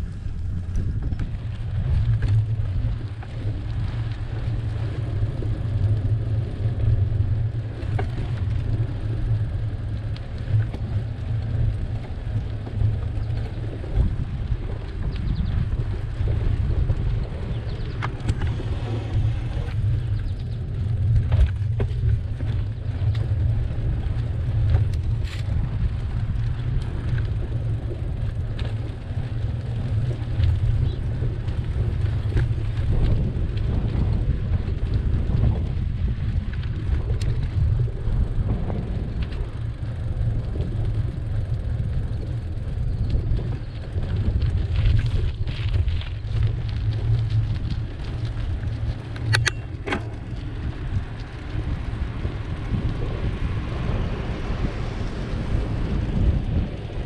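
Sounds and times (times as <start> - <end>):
wind and road noise rumble: 0.0 - 57.0.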